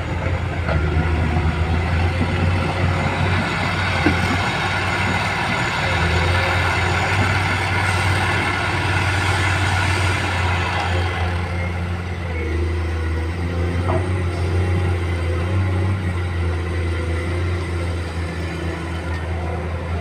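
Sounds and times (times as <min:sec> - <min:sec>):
excavator diesel engine: 0:00.0 - 0:20.0.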